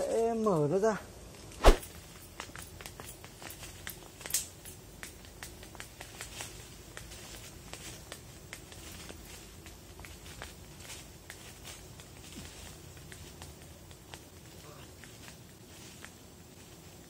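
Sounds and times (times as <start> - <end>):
crackles of dry leaves: 0.0 - 17.0.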